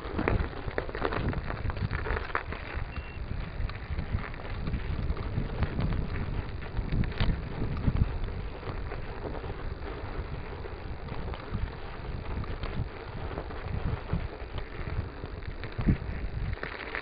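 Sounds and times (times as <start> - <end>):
bike clicks and rattles: 0.0 - 17.0
bike tyre noise on snow: 0.0 - 17.0
wind buffeting microphone: 0.0 - 17.0.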